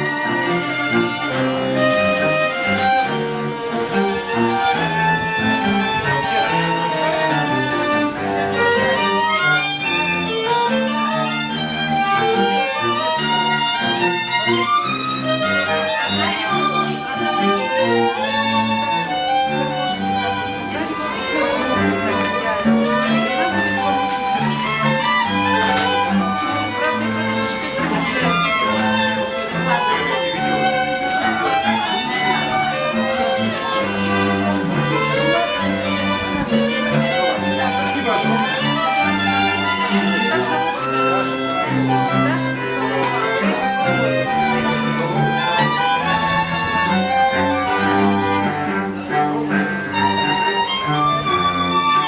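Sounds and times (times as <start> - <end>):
bowed string ensemble: 0.0 - 52.0
violins playing sustained notes: 0.0 - 52.0.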